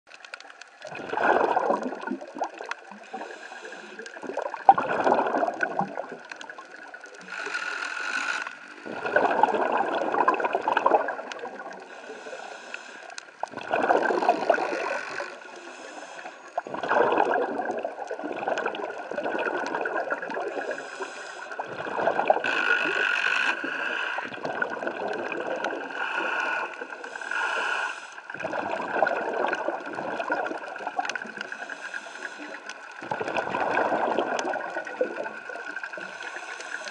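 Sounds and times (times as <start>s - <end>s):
muffled underwater rushing: 0.1s - 7.5s, 8.5s - 36.9s.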